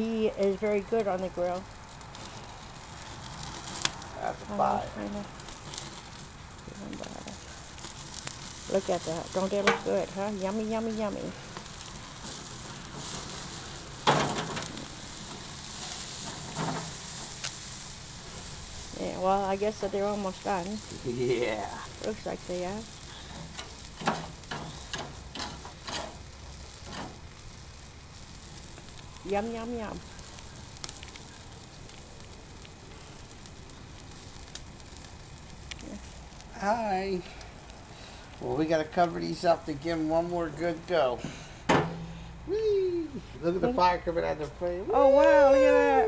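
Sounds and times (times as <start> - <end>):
fat flaring in fire: 0.0 - 44.1
meat sizzling on a grill: 0.0 - 46.0.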